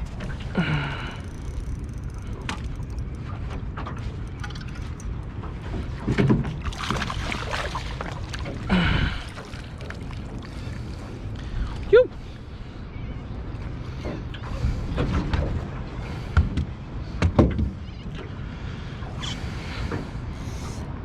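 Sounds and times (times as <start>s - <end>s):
water lapping around boat: 0.0s - 21.0s.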